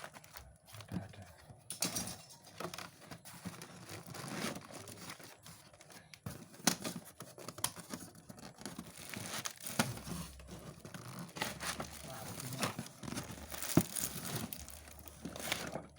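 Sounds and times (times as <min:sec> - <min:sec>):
packaging rustling and tearing: 0:00.0 - 0:01.3, 0:02.4 - 0:15.9.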